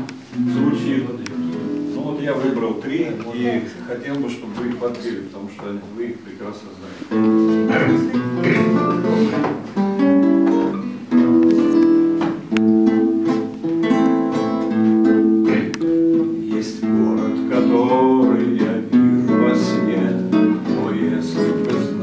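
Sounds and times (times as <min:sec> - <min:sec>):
acoustic guitar strumming chords: 0:00.0 - 0:02.8, 0:07.1 - 0:22.0.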